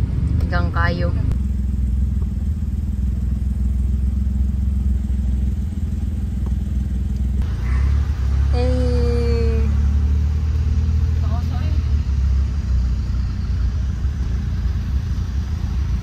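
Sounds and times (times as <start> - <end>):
road noise inside cabin: 0.0 - 16.0
vehicle engine rumble: 0.0 - 16.0.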